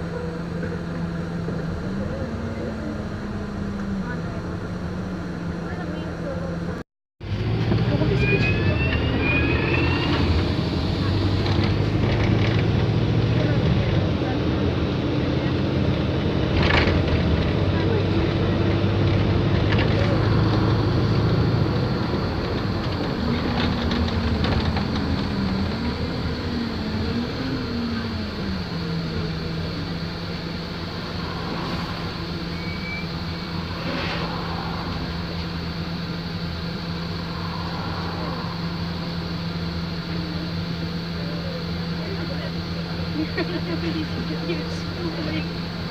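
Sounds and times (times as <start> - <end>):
bus engine running: 0.0 - 45.9.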